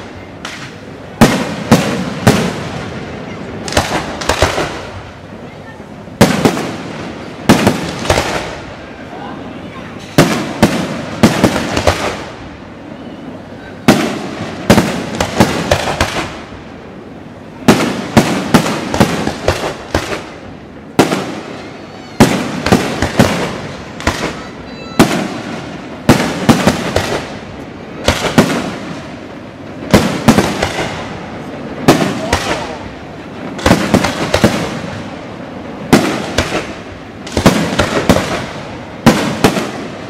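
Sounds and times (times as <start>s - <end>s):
fireworks bangs: 0.0s - 40.0s
fireworks rumble: 0.0s - 40.0s.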